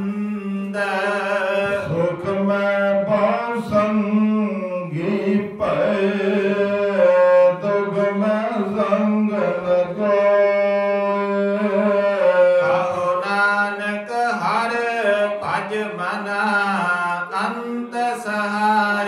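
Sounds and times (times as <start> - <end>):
man singing devotional song: 0.0 - 19.0.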